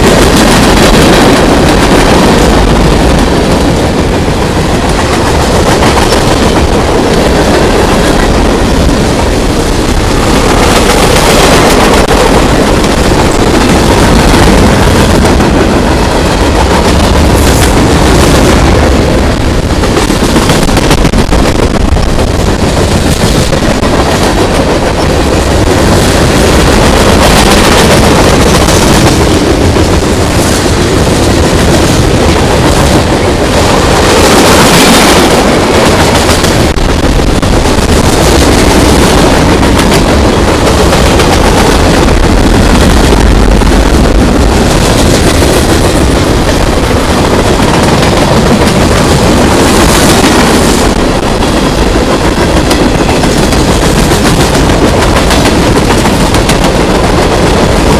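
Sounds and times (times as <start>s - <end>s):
freight train cars rolling past: 0.0s - 57.9s.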